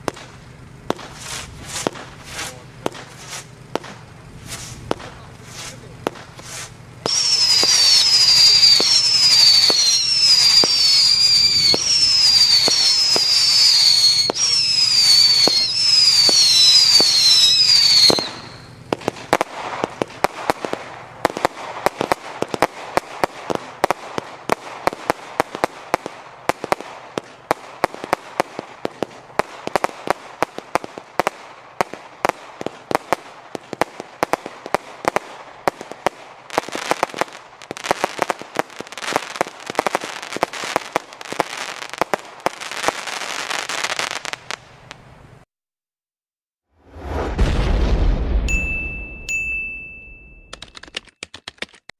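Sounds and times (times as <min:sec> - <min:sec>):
falling firework whistle: 0:00.0 - 0:44.6, 0:46.8 - 0:49.5
sharp firework cracks and pops: 0:00.0 - 0:45.4
firework shots: 0:00.0 - 0:45.5, 0:46.8 - 0:49.3.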